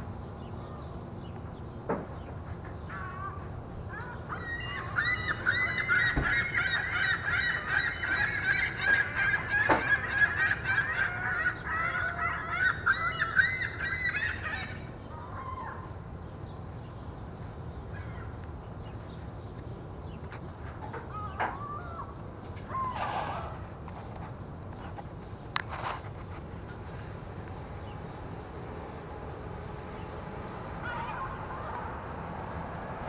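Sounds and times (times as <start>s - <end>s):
flock of birds chattering: 0.0s - 33.0s
low city hum: 0.0s - 33.0s.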